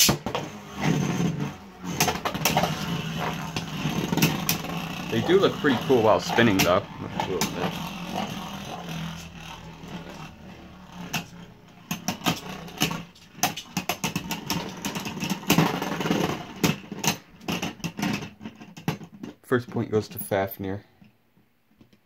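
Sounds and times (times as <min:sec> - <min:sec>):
spinning tops whirring: 0:00.0 - 0:19.0.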